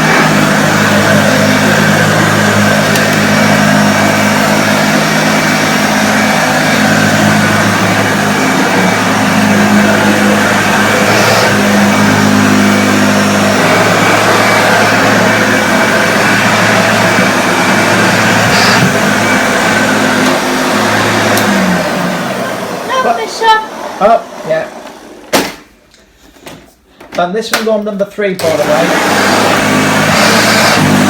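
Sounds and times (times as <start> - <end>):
upright vacuum cleaner running: 0.0 - 25.6, 28.4 - 31.0.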